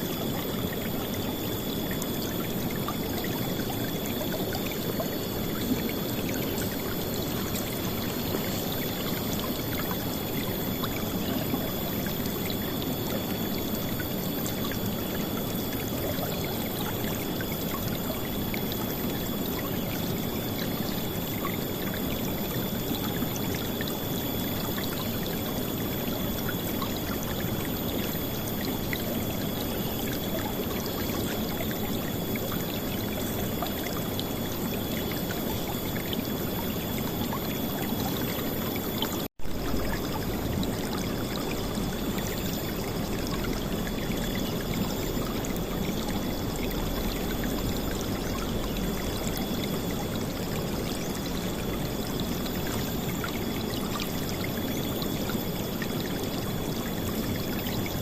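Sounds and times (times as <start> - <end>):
faint steady high tone: 0.0 - 58.0.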